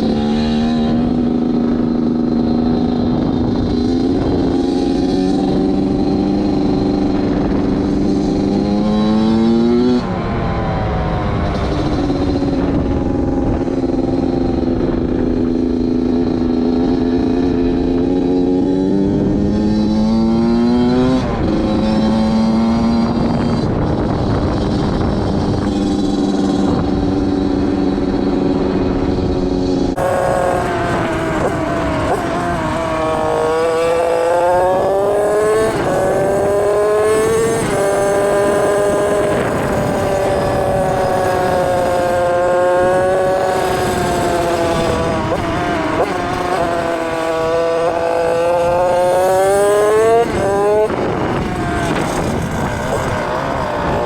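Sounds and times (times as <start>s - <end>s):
two-stroke motorbike engine revving: 0.0s - 54.0s.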